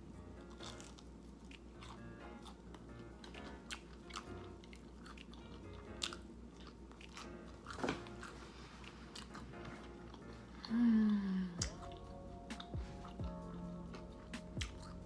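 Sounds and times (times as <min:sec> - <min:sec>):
quiet background music with beat: 0:00.0 - 0:15.0
chewing and crunching: 0:00.4 - 0:15.0.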